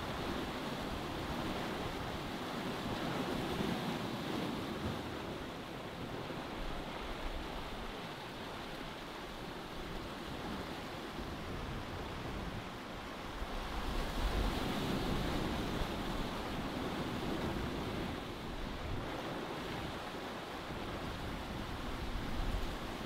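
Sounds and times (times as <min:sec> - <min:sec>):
sea water rushing past boat: 0:00.0 - 0:23.0
wind: 0:00.0 - 0:23.0.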